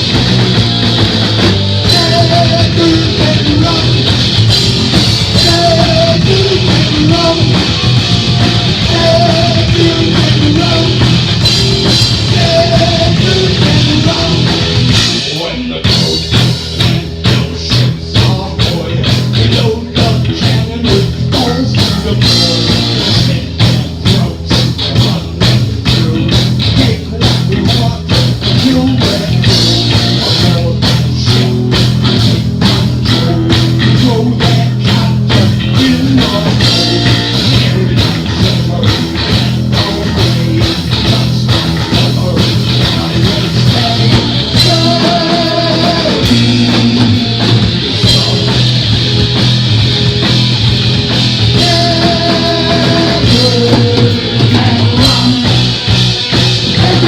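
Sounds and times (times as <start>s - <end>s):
bass guitar: 0.0s - 57.0s
electric guitars: 0.0s - 57.0s
fast drum beat: 0.0s - 57.0s.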